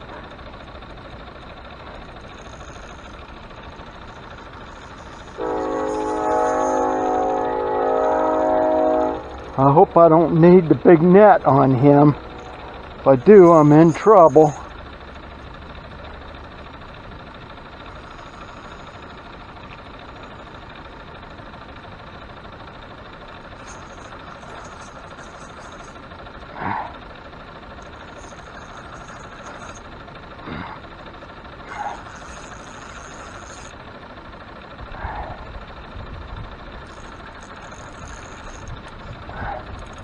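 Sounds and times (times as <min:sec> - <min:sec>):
motor hum: 0:00.0 - 0:40.0.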